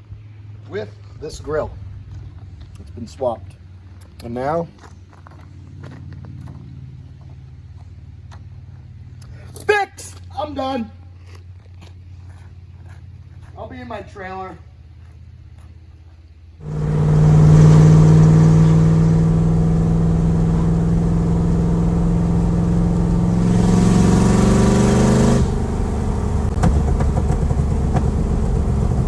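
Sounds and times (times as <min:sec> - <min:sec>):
vee eight engine driving: 0:00.0 - 0:29.0.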